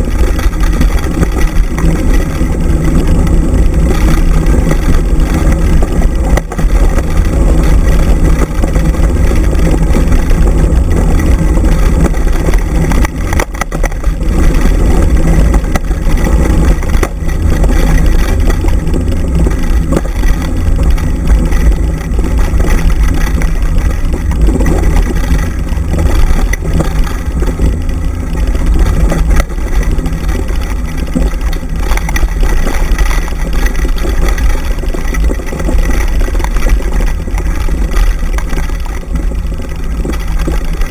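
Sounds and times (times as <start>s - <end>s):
scooter wheels on dirt track: 0.0s - 40.9s
wind buffeting microphone: 0.0s - 40.9s.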